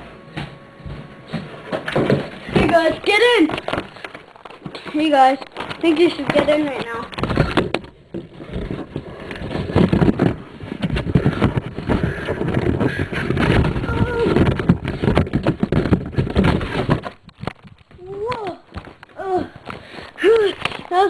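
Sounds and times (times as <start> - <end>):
camera rustling and bumping: 0.9 - 21.0.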